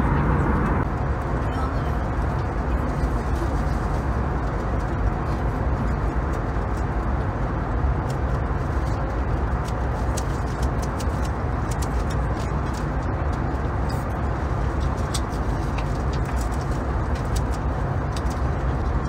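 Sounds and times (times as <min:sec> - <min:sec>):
airliner engines droning: 0:00.0 - 0:19.0.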